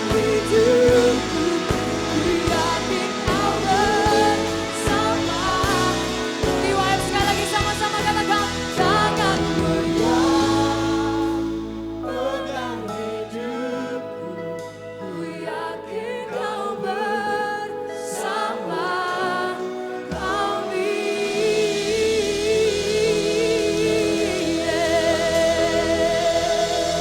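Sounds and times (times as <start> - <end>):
singers singing: 0.0 - 27.0
worship band playing: 0.0 - 27.0.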